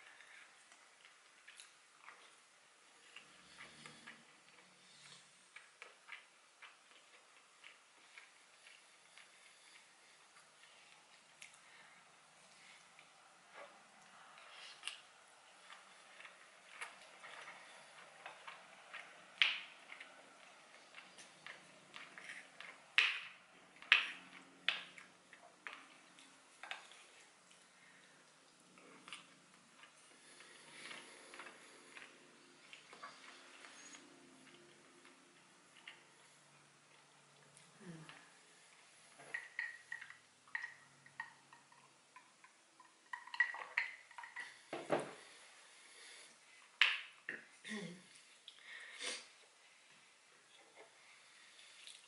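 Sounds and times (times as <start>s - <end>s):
chewing: 0.0s - 49.4s, 50.5s - 52.0s.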